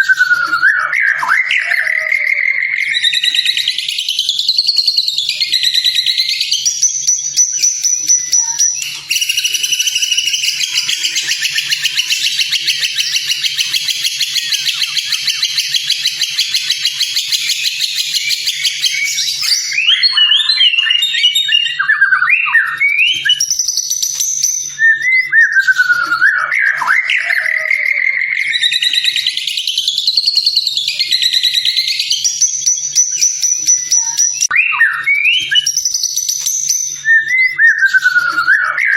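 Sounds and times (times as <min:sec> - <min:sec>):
songbird singing trills and whistles: 0:00.0 - 0:38.9.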